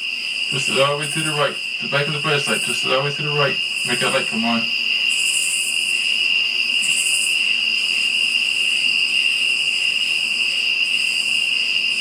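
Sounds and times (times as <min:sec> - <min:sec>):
crickets trilling: 0:00.0 - 0:12.0
high insect buzzing: 0:00.0 - 0:12.0.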